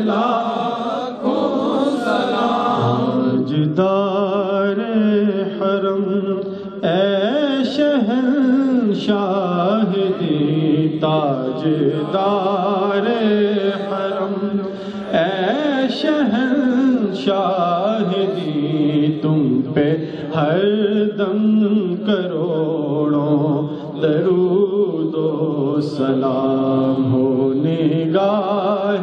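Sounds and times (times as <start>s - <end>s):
man singing unaccompanied: 2.1s - 29.0s.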